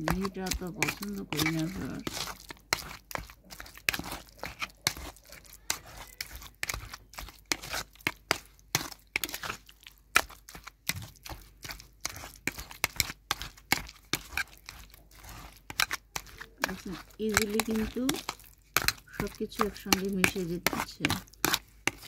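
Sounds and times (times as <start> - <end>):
utensil mashing in metal bowl: 0.0 - 22.0.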